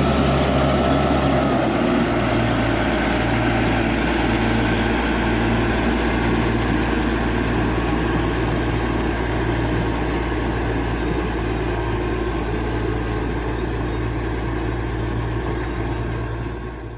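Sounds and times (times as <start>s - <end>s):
bulldozer diesel engine droning: 0.0s - 16.9s.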